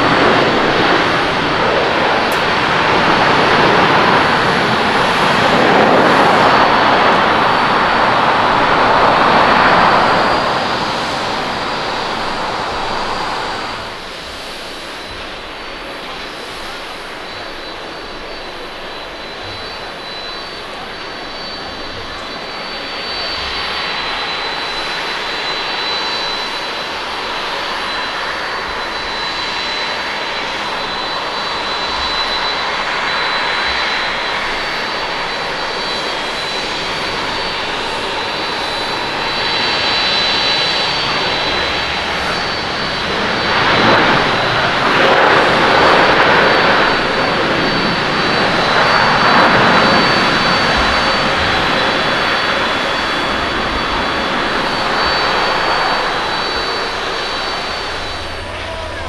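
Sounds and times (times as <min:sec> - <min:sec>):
jet engines whining on landing: 0:00.0 - 0:59.0
reverse thrust roar: 0:00.0 - 0:59.0.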